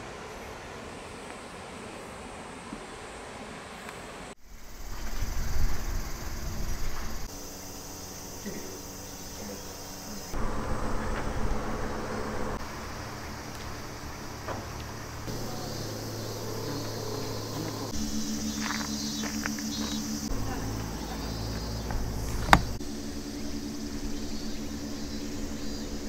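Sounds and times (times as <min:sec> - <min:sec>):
insect drone: 0:00.0 - 0:26.0
low rumble: 0:04.6 - 0:26.0.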